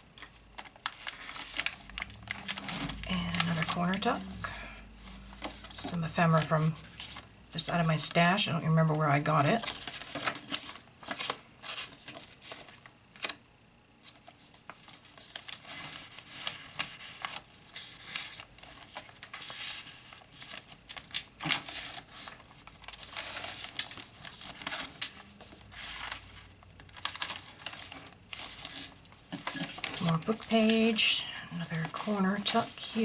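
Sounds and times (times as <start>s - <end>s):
paper rustling and crinkling: 0.0s - 8.4s, 9.0s - 13.4s, 14.0s - 33.0s.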